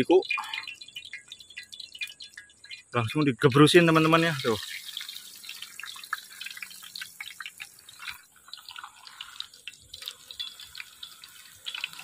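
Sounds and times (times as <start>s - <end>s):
frying in hot oil with crackling pops: 0.0s - 12.0s.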